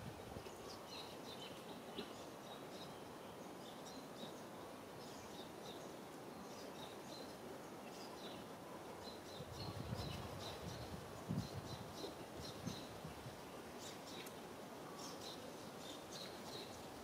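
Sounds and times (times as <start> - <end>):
outdoor background noise: 0.0 - 17.0
small birds chirping: 0.2 - 17.0.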